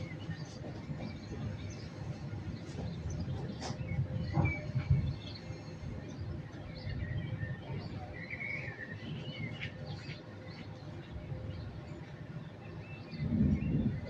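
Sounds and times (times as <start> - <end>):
distant city rumble: 0.0 - 14.0.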